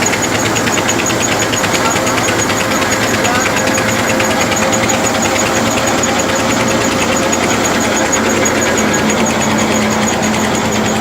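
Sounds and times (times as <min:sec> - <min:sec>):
fast high ticking: 0:00.0 - 0:11.0
flour mill mechanical din: 0:00.0 - 0:11.0
tractor engine running: 0:00.0 - 0:11.0.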